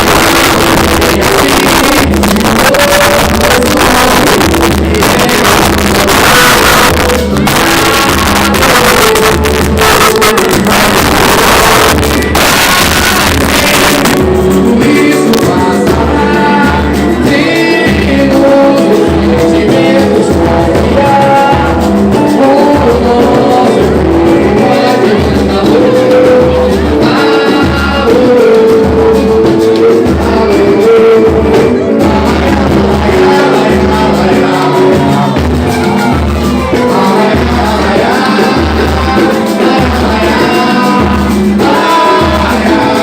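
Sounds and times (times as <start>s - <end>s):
music with singing and low beat: 0.0s - 43.0s.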